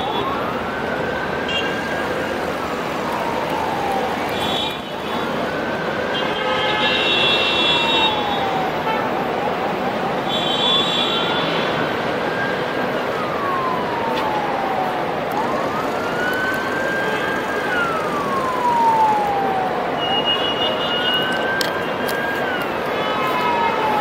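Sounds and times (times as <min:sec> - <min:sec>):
city traffic noise: 0:00.0 - 0:24.0
emergency siren wailing: 0:00.0 - 0:24.0.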